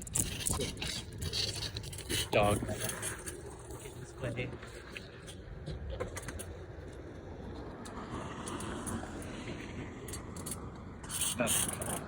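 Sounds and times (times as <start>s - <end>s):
bicycle rolling noise: 0.0s - 12.0s.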